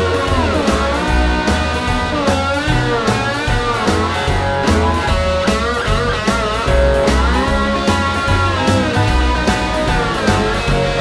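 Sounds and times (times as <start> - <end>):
bass and drums: 0.0 - 11.0
electric guitar lead: 0.0 - 11.0.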